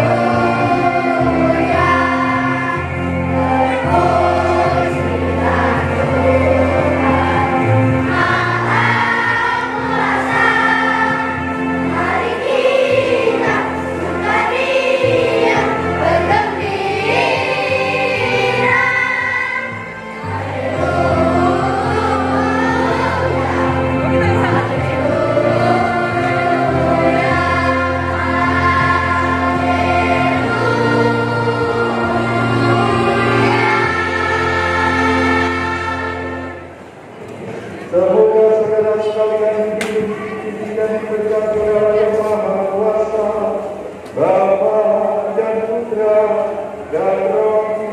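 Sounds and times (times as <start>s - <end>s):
children's choir singing a hymn: 0.0s - 47.9s.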